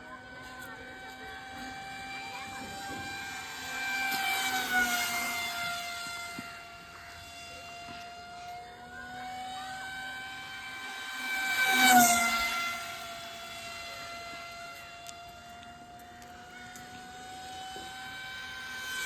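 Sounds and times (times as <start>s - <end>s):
model aircraft motor whine: 0.0s - 19.0s.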